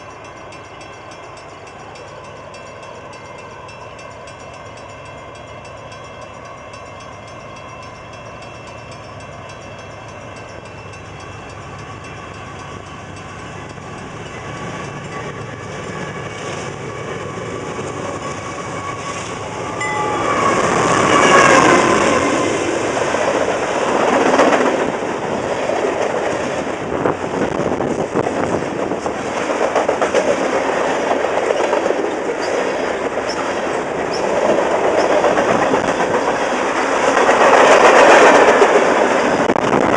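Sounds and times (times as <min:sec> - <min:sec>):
freight train passing: 0:00.0 - 0:39.9
train wheels clickety-clack: 0:00.0 - 0:39.9.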